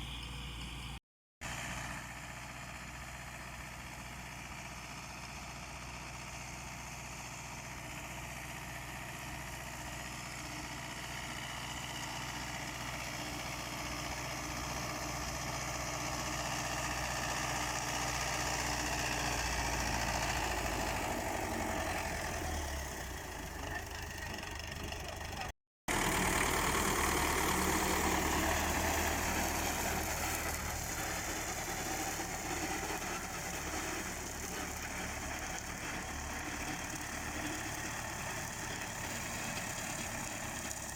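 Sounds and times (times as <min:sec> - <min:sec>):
tractor diesel engine mowing: 0:00.0 - 0:40.9.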